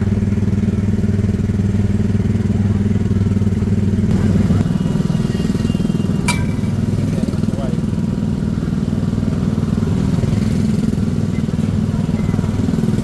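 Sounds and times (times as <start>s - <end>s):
small petrol engine running: 0.0s - 13.0s.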